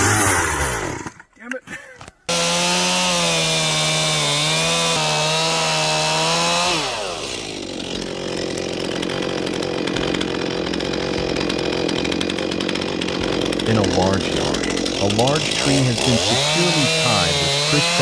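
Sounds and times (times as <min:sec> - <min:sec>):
chainsaw running: 0:00.0 - 0:01.3, 0:02.3 - 0:18.0.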